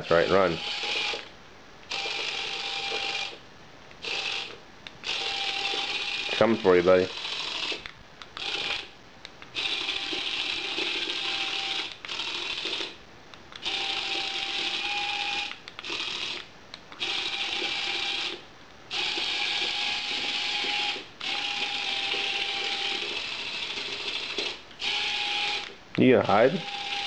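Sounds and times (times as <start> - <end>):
toy electric motor whirring: 0.2 - 1.3, 1.9 - 3.4, 4.0 - 8.9, 9.5 - 13.0, 13.6 - 27.0.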